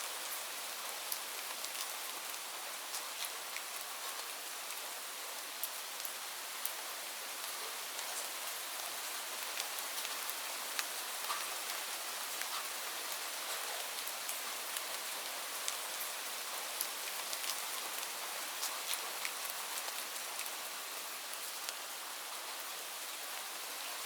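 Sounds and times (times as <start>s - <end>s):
steady rain with drop patters: 0.0s - 24.0s.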